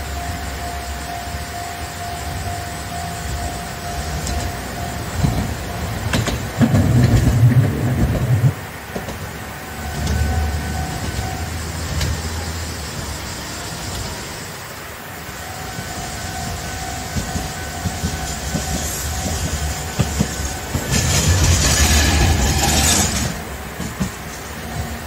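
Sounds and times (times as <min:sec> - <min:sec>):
level-crossing warning bell ringing: 0:00.0 - 0:08.6, 0:09.3 - 0:23.8
streetcar wheels passing: 0:00.0 - 0:25.0.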